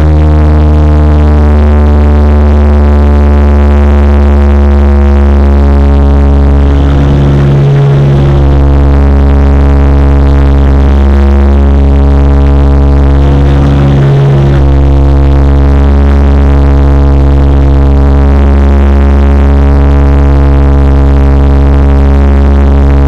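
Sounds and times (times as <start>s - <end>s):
turboprop drone in cabin: 0.0s - 23.0s.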